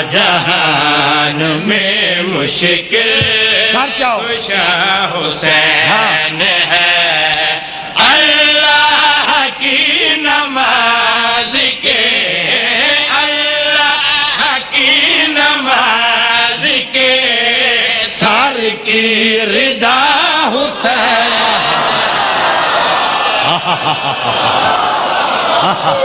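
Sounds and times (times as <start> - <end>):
man chanting into a microphone: 0.0 - 21.8.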